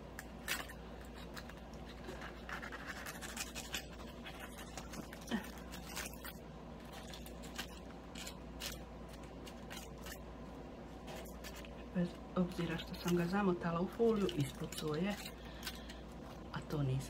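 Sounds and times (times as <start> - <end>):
foil crinkling and tearing: 0.0 - 10.4, 11.0 - 16.7.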